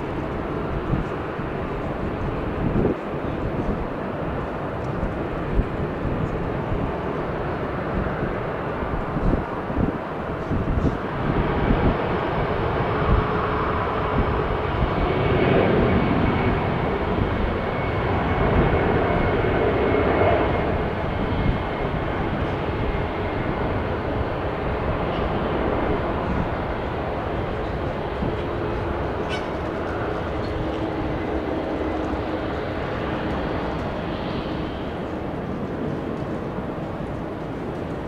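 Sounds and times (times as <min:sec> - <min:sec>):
jet engines rumbling at low power: 0:00.0 - 0:38.0.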